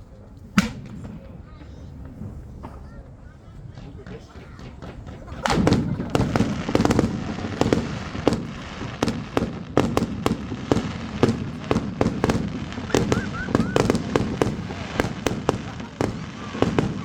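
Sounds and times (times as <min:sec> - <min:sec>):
firecrackers banging: 0:00.4 - 0:17.0
rumble of distant bangs: 0:00.4 - 0:17.0.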